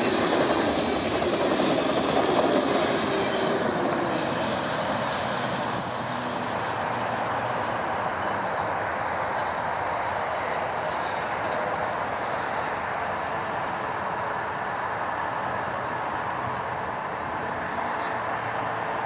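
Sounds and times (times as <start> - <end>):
freight train rolling: 0.0 - 19.0.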